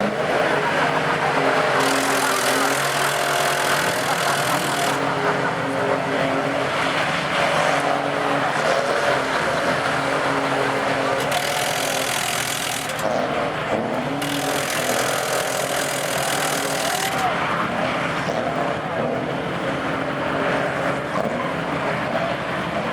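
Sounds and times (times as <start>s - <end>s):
tyres spinning on pavement: 0.0s - 20.2s
diesel engine running hard: 0.0s - 22.9s.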